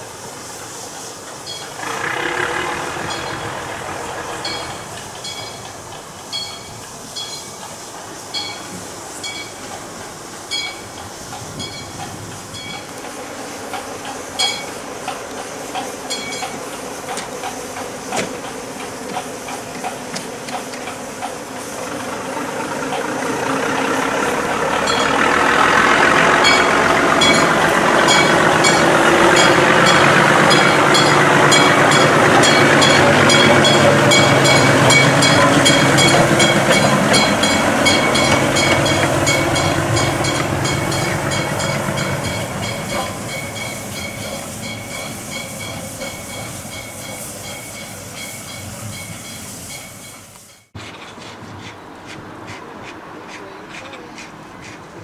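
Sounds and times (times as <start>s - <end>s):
diesel locomotive running: 0.0s - 55.0s.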